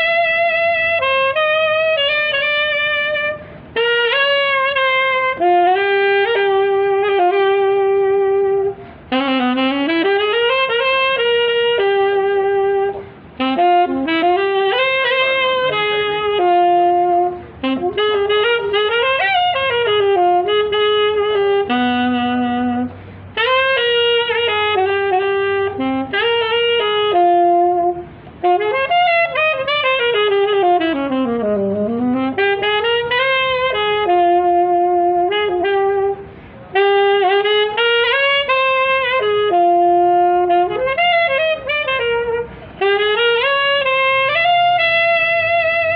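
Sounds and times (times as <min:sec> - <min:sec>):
saxophone melody: 0:00.0 - 0:45.9.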